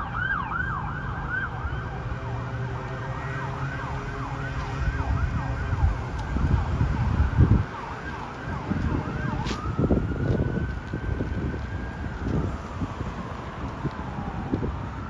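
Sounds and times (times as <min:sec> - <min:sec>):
fire engine siren: 0:00.0 - 0:15.0
traffic rumble: 0:00.0 - 0:15.0.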